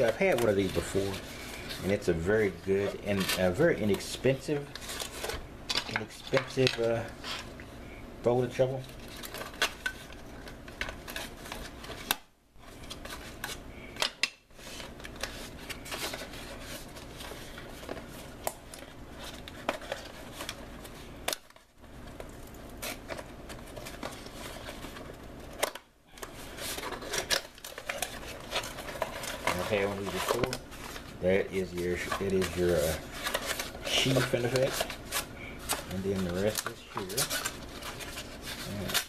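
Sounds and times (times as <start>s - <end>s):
cardboard packaging rustling: 0.0s - 7.6s, 8.3s - 13.7s, 14.5s - 39.0s.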